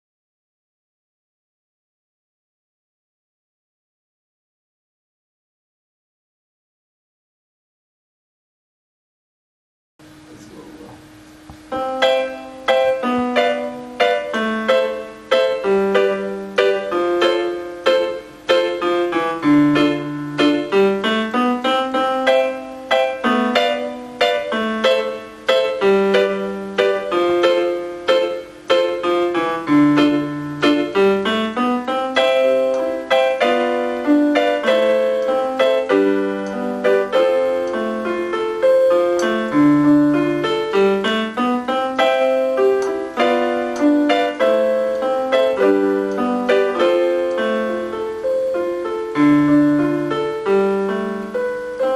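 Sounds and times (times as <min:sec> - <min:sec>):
keyboard playing piano melody: 0:10.1 - 0:51.9.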